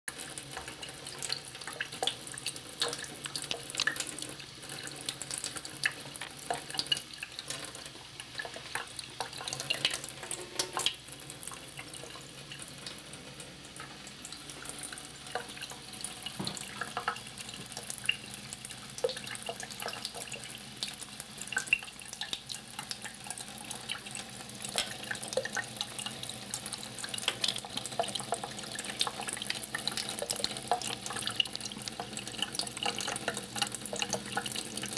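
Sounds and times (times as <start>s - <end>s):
tap water running into sink: 0.1s - 34.9s.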